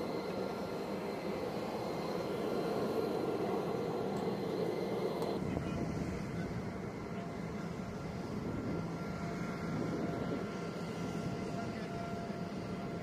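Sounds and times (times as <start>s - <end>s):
high steady whines: 0.0s - 13.0s
jet aircraft low rumble: 0.0s - 13.0s.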